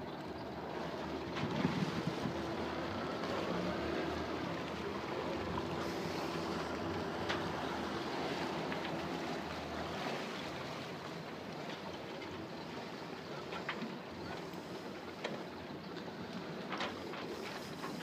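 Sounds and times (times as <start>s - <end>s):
water rushing past boat: 0.0s - 18.0s.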